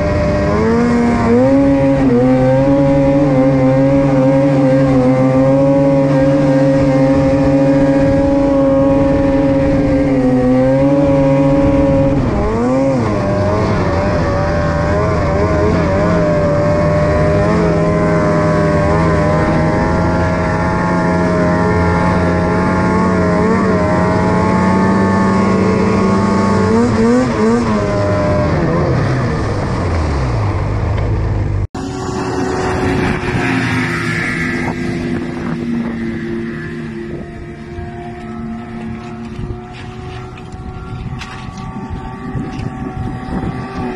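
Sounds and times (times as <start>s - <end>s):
wind noise: 0.0s - 31.2s, 31.8s - 43.9s
snowmobile engine at high revs: 0.0s - 43.9s.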